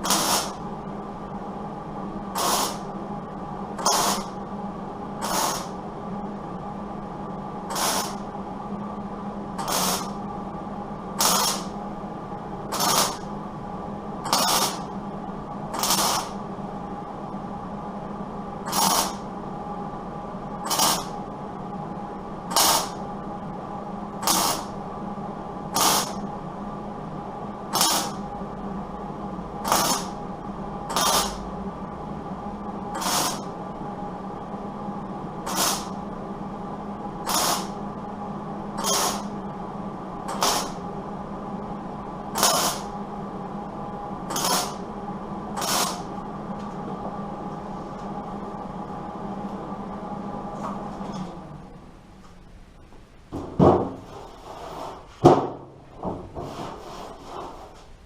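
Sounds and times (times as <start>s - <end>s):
mechanical hum: 0.0s - 58.0s.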